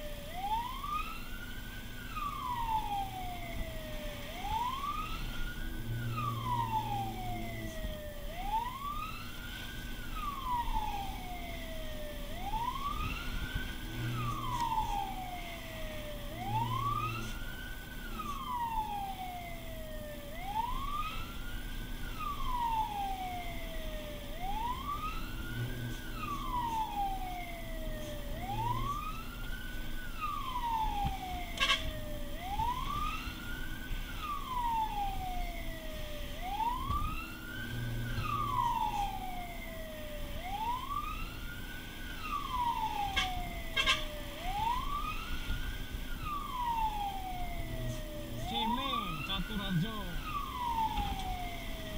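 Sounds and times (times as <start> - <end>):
fire engine wail siren: 0.0 - 51.9
truck engine and road noise: 0.0 - 51.9.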